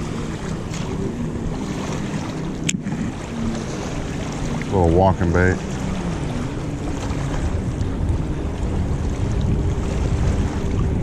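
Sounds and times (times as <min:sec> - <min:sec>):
motorboats droning: 0:00.0 - 0:11.0
waves lapping at shore: 0:00.0 - 0:11.0
wind on microphone: 0:00.0 - 0:11.0.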